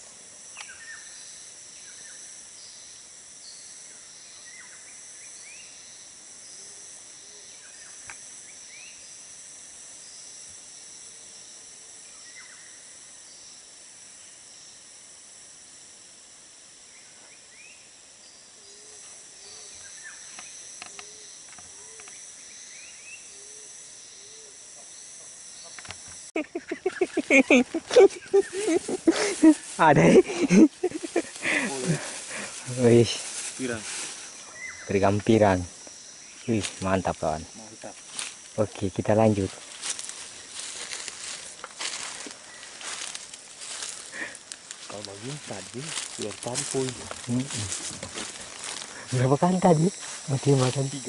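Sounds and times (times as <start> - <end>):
insect chorus: 0.0 - 51.0.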